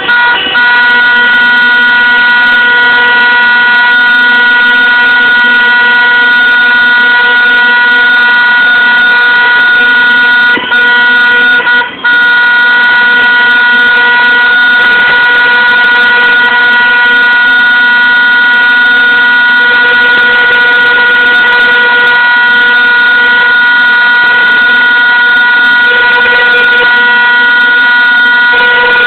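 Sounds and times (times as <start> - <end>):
horns blaring: 0.0 - 29.0.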